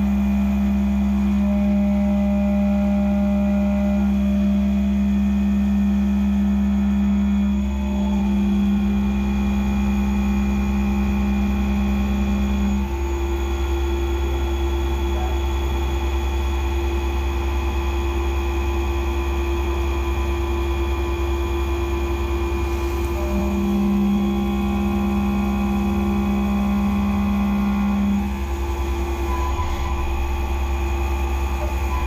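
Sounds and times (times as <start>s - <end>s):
milling machine whining hum: 0.0s - 32.0s.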